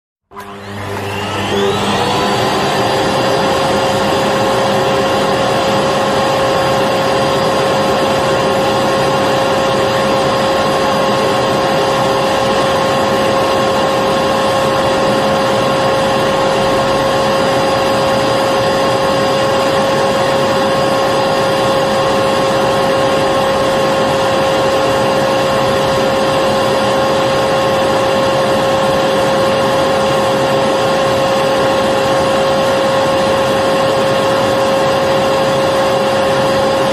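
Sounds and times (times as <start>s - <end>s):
vacuum cleaner running: 0.3s - 36.9s.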